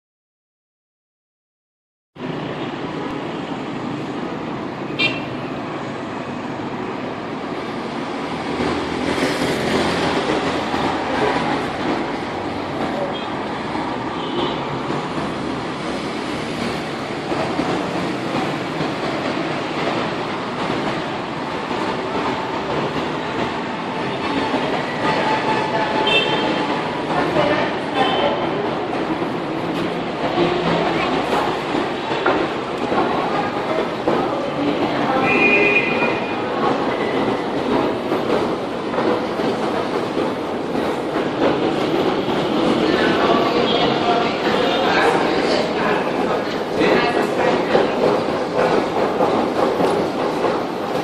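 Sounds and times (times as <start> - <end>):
road traffic rumble: 2.2 - 51.0.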